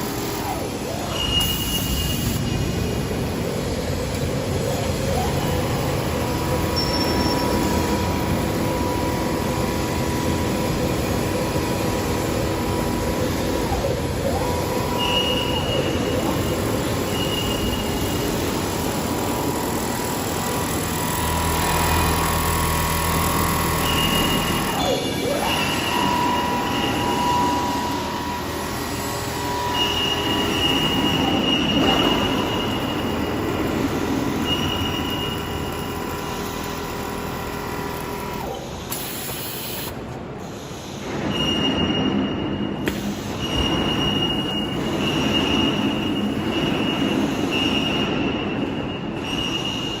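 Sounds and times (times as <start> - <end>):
high-pitched machine whine: 0.0 - 50.0.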